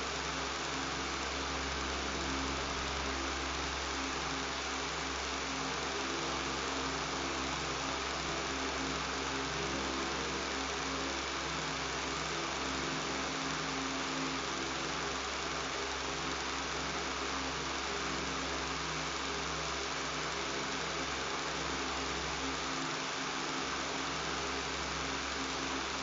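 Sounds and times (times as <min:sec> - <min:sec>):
electric fan hiss and hum: 0:00.0 - 0:26.0.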